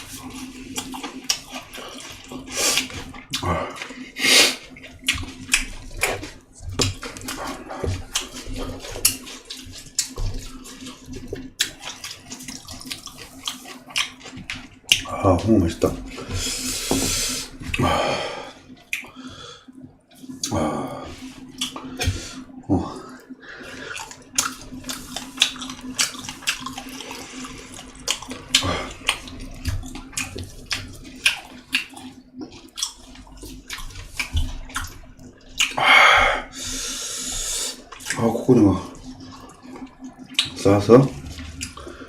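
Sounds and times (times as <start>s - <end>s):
wet chewing and lip-smacking: 0.0s - 17.8s, 18.6s - 35.8s, 36.4s - 42.0s
faint steady hum: 0.0s - 42.0s.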